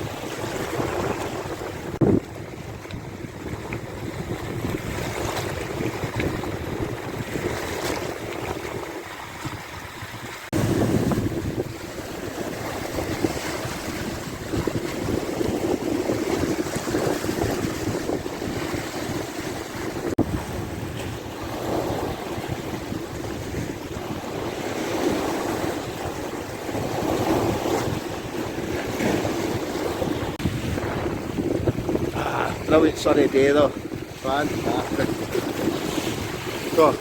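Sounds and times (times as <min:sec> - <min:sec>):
sea waves on shore: 0:00.0 - 0:37.0
wind buffeting microphone: 0:00.0 - 0:37.0.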